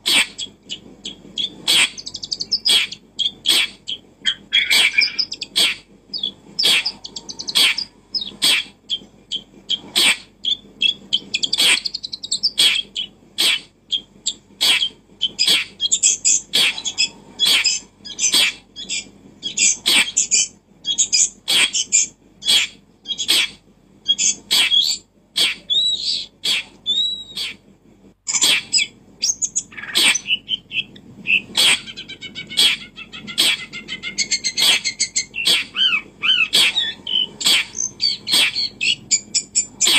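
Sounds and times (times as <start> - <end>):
bird chirping: 0.0 - 27.6, 28.3 - 39.9
bird whistled gliding calls: 0.2 - 23.4, 24.1 - 27.6, 28.3 - 39.9.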